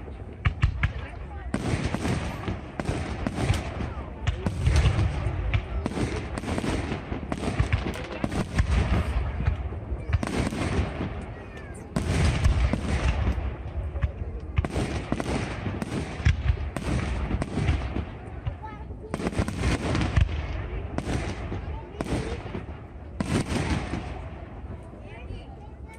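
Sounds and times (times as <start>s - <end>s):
deep firework booms: 0.0s - 25.4s
fireworks bangs and crackling: 0.0s - 25.9s.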